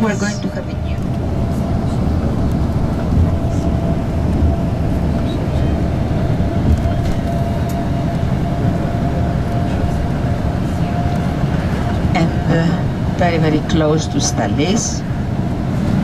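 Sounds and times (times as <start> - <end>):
coach engine and road rumble: 0.0 - 16.0.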